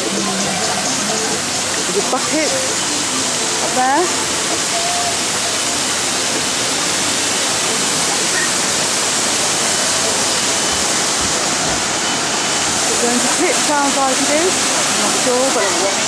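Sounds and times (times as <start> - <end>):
falling and spraying water: 0.0 - 16.0.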